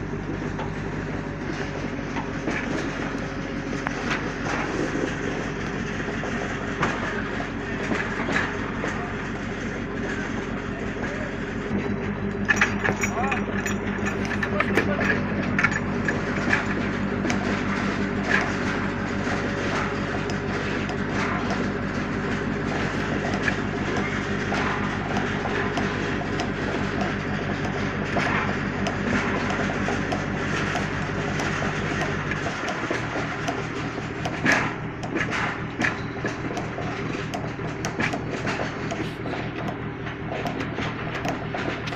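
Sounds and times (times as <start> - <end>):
engine drone: 0.0 - 41.9
machinery clanks and knocks: 0.0 - 41.9
rattling clatter of ticks: 0.1 - 41.9.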